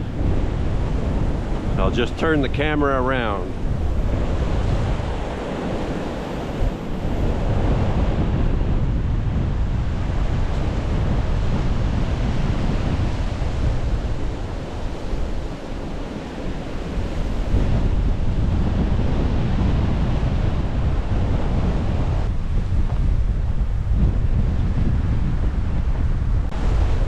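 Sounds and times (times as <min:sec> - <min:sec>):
gusting wind howling: 0:00.0 - 0:27.0
wind buffeting microphone: 0:00.0 - 0:27.0.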